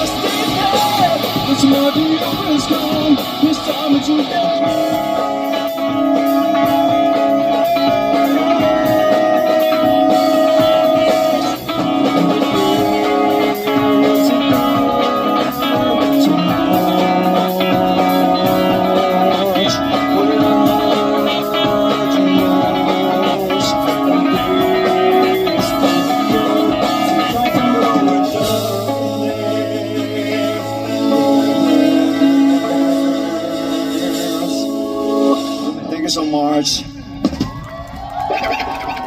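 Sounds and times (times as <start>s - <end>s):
electric guitar held notes: 0.0s - 36.2s
rock band playing: 0.0s - 39.0s.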